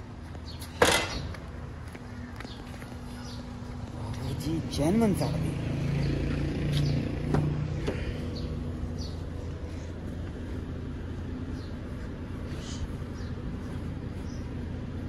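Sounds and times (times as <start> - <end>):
car engine idling: 1.7 - 15.0.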